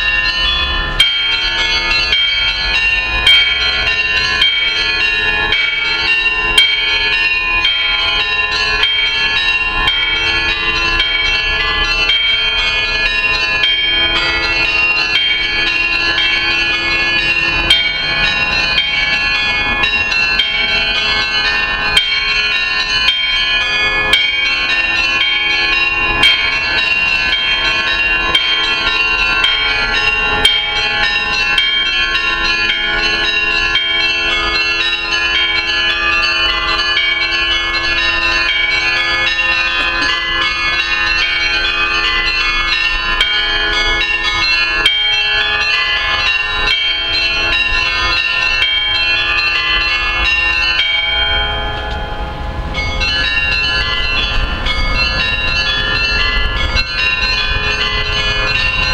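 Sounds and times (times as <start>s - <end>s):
church bells pealing: 0.0s - 58.9s.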